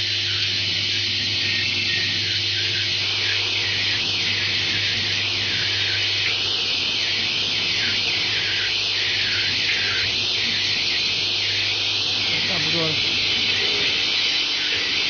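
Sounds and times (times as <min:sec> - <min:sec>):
assembly machine humming and rattling: 0:00.0 - 0:15.0.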